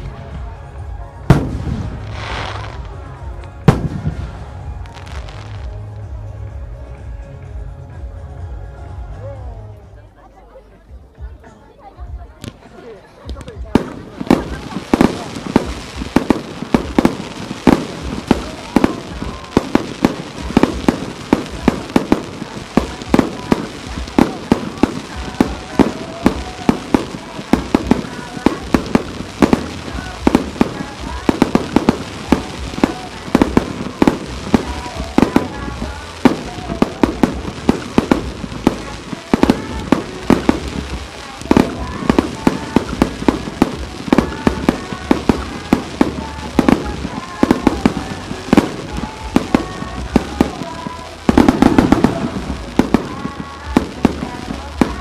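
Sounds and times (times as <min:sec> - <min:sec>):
firework crackle: 0:00.0 - 0:06.6, 0:12.4 - 0:55.0.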